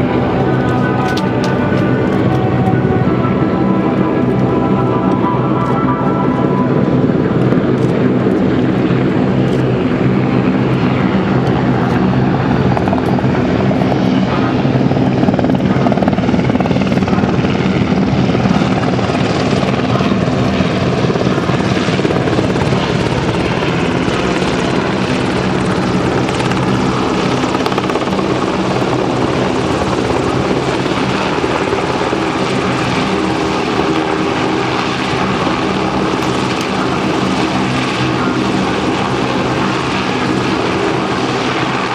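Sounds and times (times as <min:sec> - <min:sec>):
helicopter rotor beating: 0:00.0 - 0:41.9
turbine engine whine: 0:00.0 - 0:41.9.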